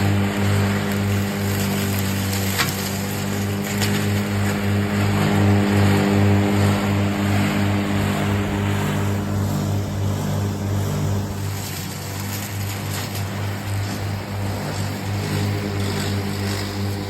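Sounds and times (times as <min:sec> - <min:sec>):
lawn mower running under load: 0:00.0 - 0:17.0.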